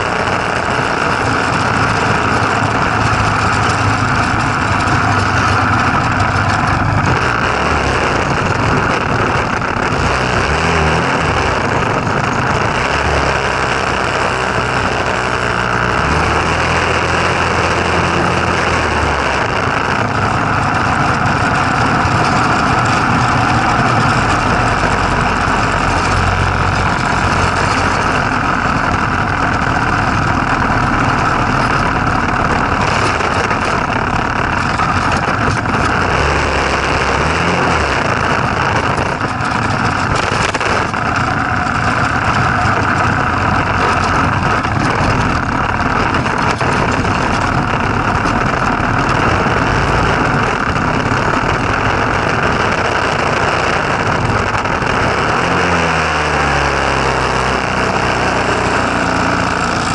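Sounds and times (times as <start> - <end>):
small engine running: 0.0 - 59.9
steady rushing noise: 0.0 - 59.9.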